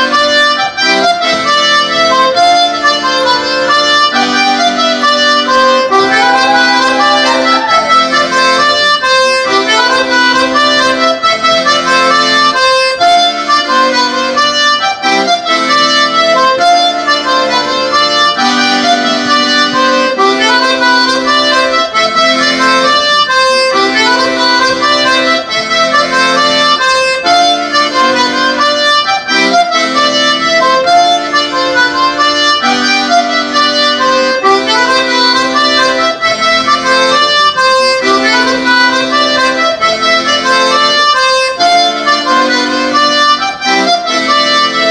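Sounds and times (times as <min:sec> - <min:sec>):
accordion dance tune: 0:00.0 - 0:44.9.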